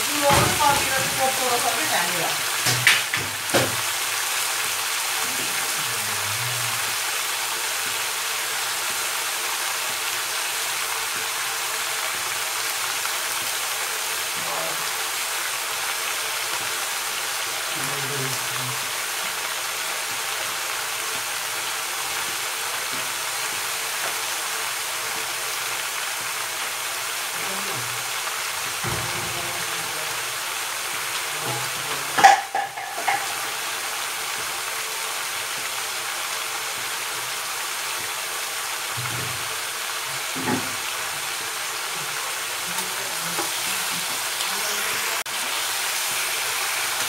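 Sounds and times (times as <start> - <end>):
vegetables sizzling in hot oil: 0.0 - 47.0.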